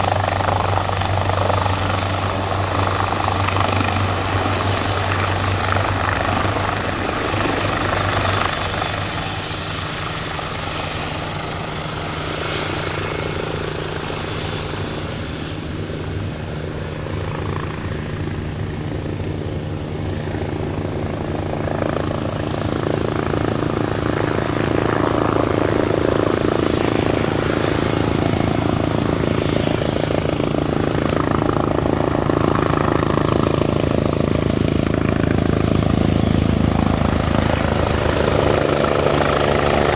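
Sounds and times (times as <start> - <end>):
helicopter rotor and engine: 0.0 - 39.9
high-pitched turbine whine: 0.0 - 39.9.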